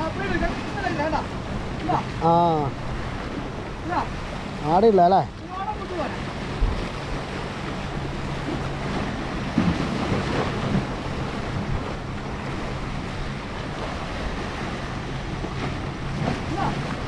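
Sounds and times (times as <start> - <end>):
waves splashing against rocks: 0.0 - 17.0
wind buffeting microphone: 0.0 - 17.0.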